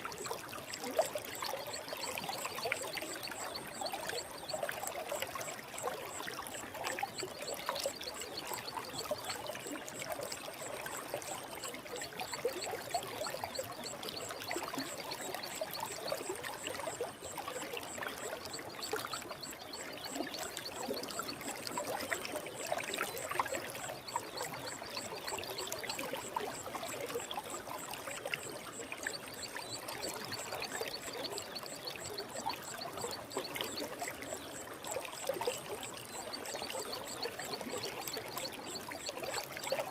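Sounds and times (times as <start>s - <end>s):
stream burbling and trickling: 0.0s - 39.9s.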